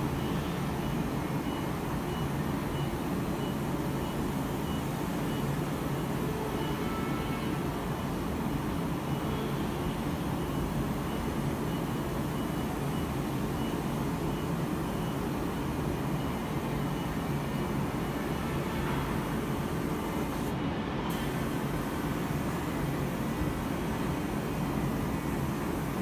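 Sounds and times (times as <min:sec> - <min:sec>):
spray-painting machine droning: 0:03.0 - 0:26.0.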